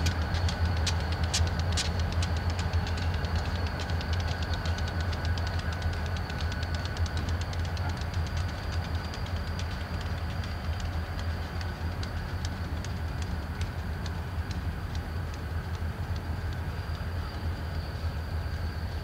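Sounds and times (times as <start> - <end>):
low diesel rumble: 0.0 - 19.0
train wheels clicking: 0.0 - 19.0.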